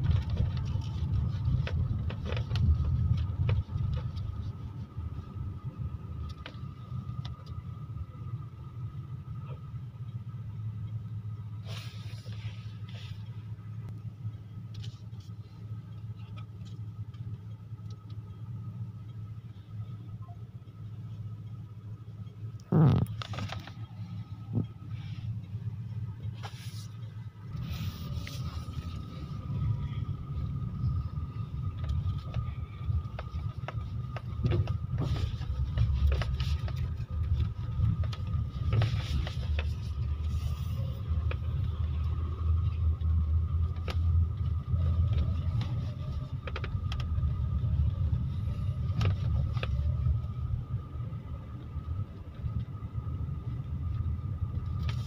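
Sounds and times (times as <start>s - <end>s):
car cabin drone: 0.0s - 55.0s.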